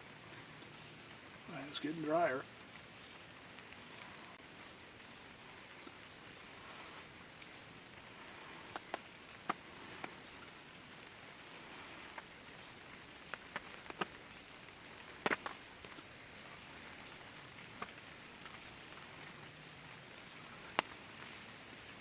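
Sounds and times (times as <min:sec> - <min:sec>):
sharp taps of raindrops: 0:00.0 - 0:22.0
steady rain falling: 0:00.0 - 0:22.0.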